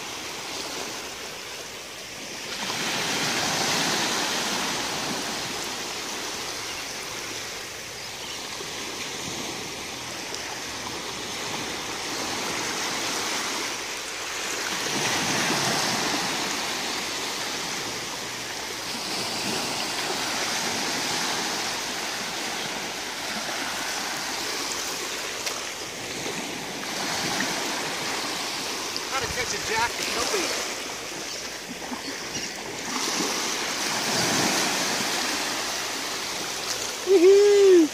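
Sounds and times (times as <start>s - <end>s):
small waves washing up shore: 0.0s - 37.9s.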